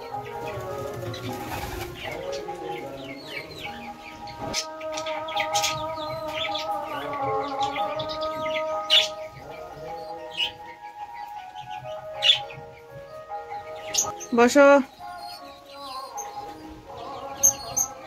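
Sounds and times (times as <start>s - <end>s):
background music: 0.0s - 18.0s
birds chirping: 0.0s - 18.0s
pigeons cooing: 0.0s - 18.0s.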